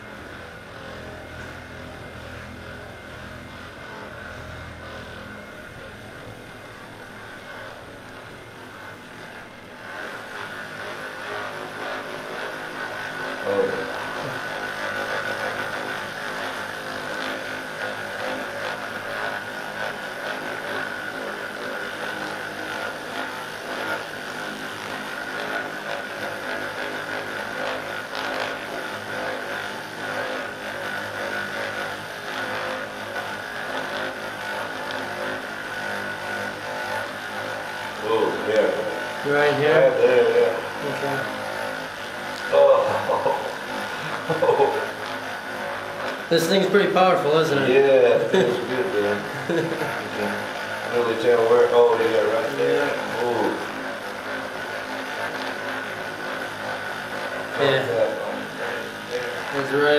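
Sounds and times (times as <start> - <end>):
massage gun buzzing: 0.0 - 59.9.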